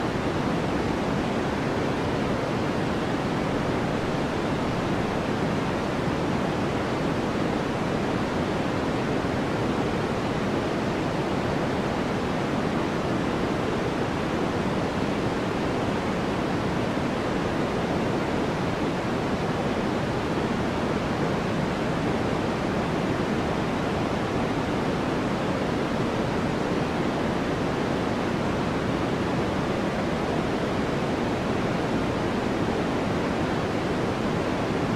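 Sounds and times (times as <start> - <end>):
steady pink noise hiss: 0.0 - 34.9.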